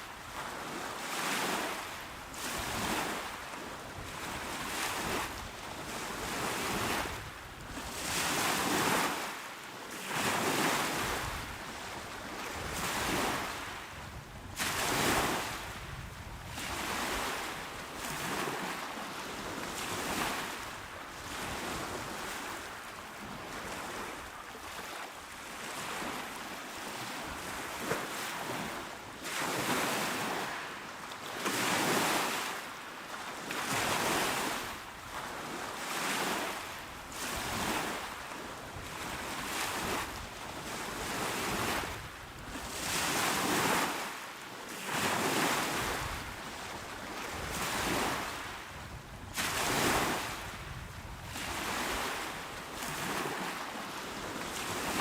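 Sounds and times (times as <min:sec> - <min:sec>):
calm ocean waves on shore: 0:00.0 - 0:55.0.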